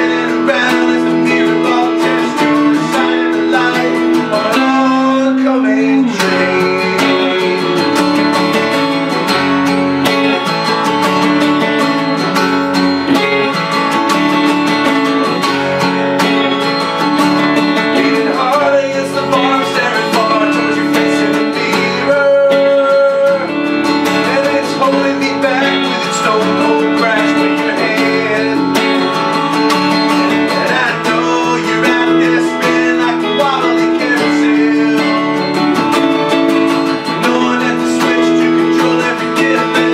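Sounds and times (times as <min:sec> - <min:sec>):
acoustic guitar strummed: 0:00.0 - 0:39.9
electric guitar playing: 0:00.0 - 0:39.9.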